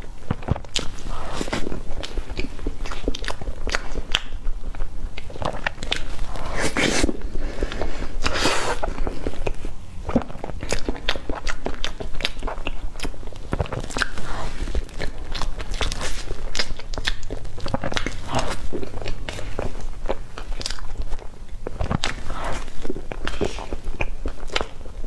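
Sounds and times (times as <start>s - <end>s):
chewing and lip-smacking: 0.0s - 25.0s.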